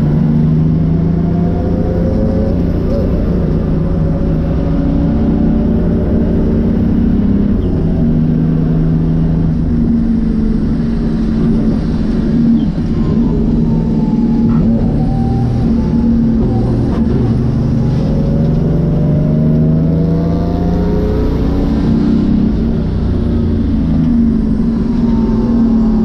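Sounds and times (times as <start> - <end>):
diesel engine running hard: 0.0 - 26.0.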